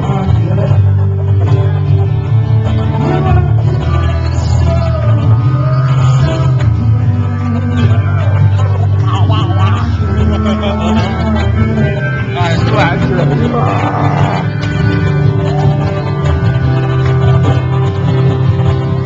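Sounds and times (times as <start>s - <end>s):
guitar accompaniment: 0.0s - 19.0s
person singing: 0.0s - 19.0s.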